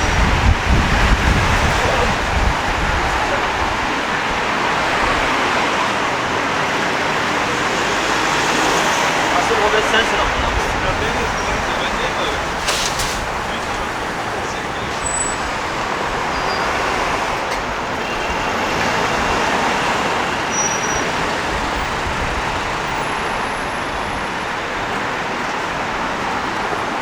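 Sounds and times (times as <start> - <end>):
road noise from passing vehicles: 0.0 - 27.0.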